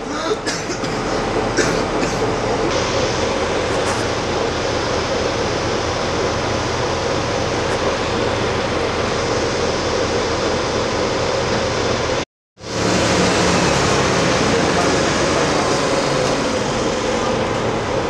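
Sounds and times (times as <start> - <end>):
bus engine hum: 0.0 - 18.0
road rumble: 0.0 - 18.0.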